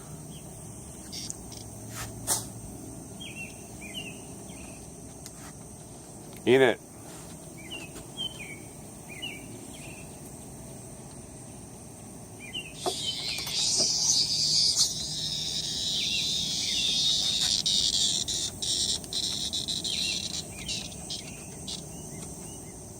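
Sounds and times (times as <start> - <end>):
cicada buzzing loudly: 0.0 - 22.9.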